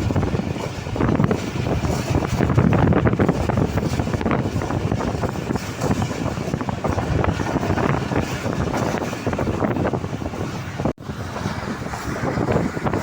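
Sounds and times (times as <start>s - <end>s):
train rumbling and clattering: 0.0s - 13.0s
wind buffeting microphone: 0.0s - 13.0s.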